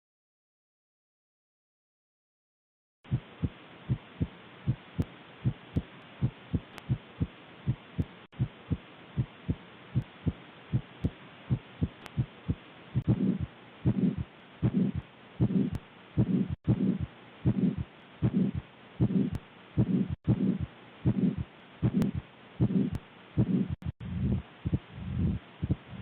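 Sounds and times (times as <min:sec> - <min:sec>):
heartbeat through stethoscope: 0:03.1 - 0:26.0.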